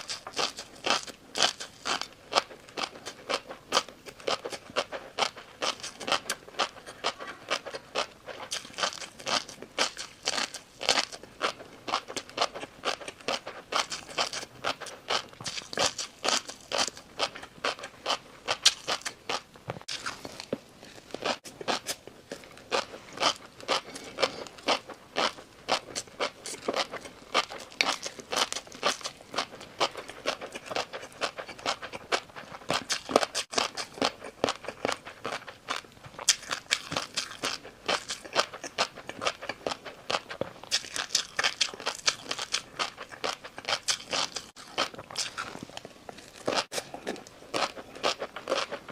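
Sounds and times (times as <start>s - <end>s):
chewing crunchy food: 0.0s - 48.9s.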